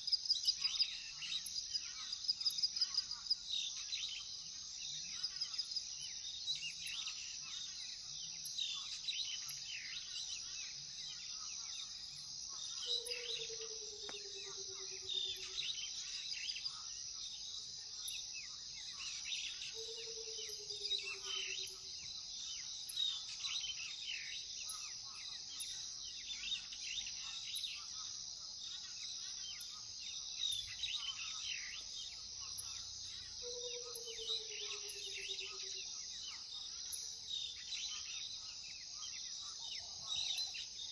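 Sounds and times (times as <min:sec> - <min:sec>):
crickets trilling: 0:00.2 - 0:40.9.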